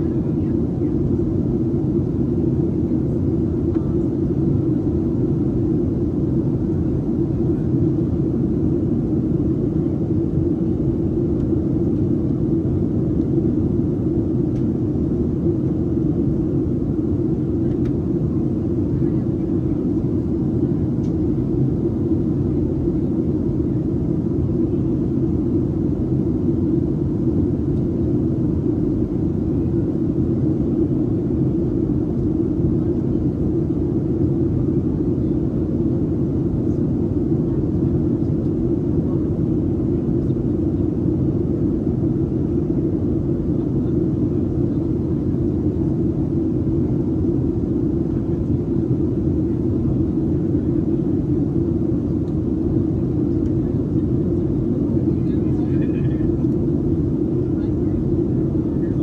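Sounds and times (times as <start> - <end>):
airliner cabin roar: 0.0 - 59.0.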